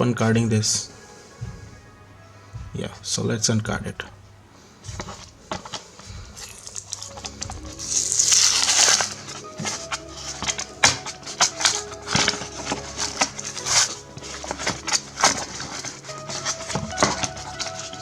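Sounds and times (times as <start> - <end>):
background music: 0.0 - 18.0
plastic crinkling: 0.4 - 18.0.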